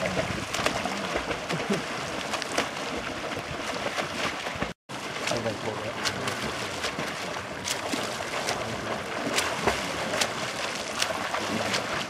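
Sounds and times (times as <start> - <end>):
arms splashing into water: 0.0 - 12.0
churned water wash: 0.0 - 12.0.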